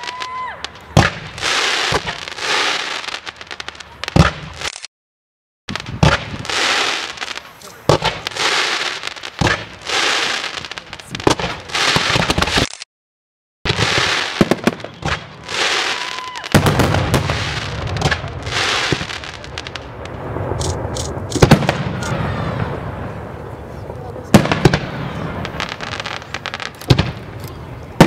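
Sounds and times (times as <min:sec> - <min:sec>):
fireworks bangs: 0:00.0 - 0:04.9, 0:05.7 - 0:12.8, 0:13.7 - 0:28.0
fireworks crackling: 0:00.0 - 0:04.9, 0:05.7 - 0:12.9, 0:13.7 - 0:28.0.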